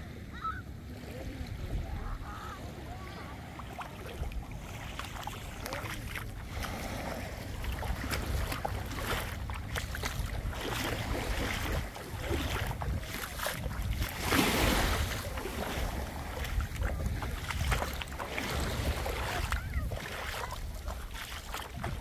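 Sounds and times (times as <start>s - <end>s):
sea water washing: 0.1s - 22.0s
wind buffeting microphone: 1.2s - 22.0s.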